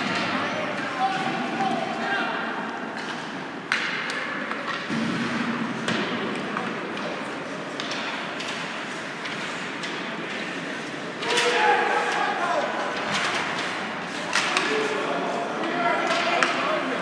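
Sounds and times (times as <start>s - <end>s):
hockey stick and puck clacks: 0.0s - 2.0s, 2.7s - 17.0s.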